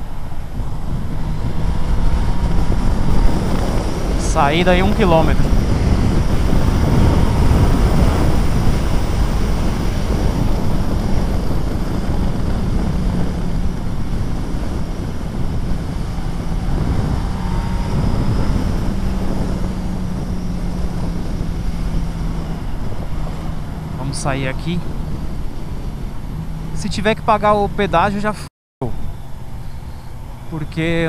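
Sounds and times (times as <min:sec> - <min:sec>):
wind noise on microphone: 0:00.0 - 0:28.3
motorcycle engine drone: 0:00.0 - 0:31.0.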